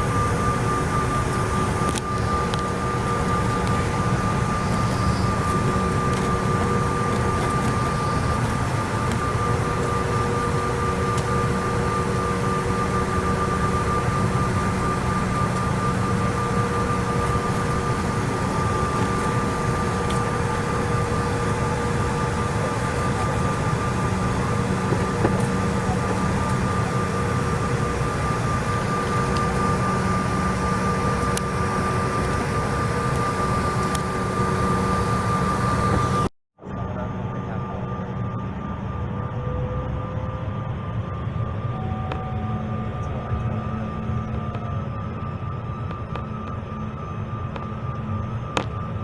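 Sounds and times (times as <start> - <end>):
jet engine cabin noise: 0.0 - 49.0.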